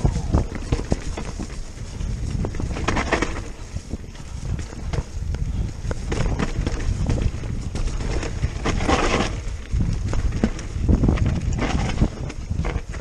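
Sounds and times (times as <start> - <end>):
bike knocks and rattles: 0.0 - 13.0
bike tyres rumbling on dirt: 0.0 - 13.0
wind buffeting microphone: 0.0 - 13.0.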